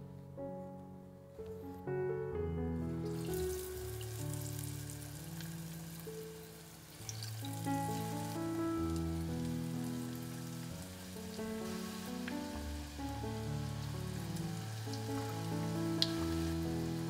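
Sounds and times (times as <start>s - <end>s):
background music of held notes: 0.0s - 17.0s
chicken wings deep-frying in oil: 3.0s - 17.0s.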